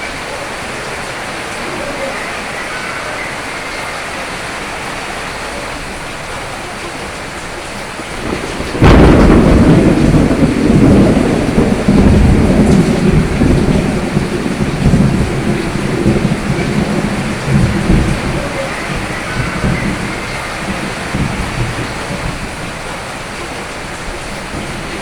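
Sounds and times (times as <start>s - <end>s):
steady rain: 0.0s - 25.0s
thunderclap with low rumble: 0.0s - 25.0s.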